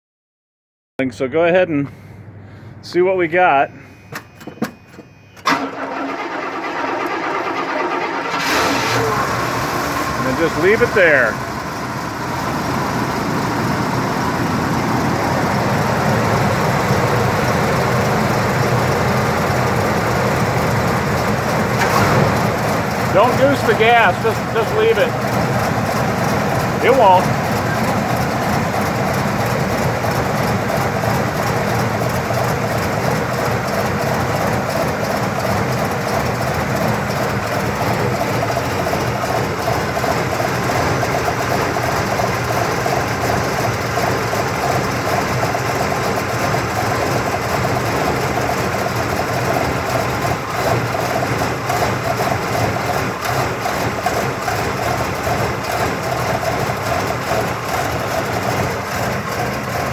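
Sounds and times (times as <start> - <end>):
car engine idling roughly: 3.8 - 59.9.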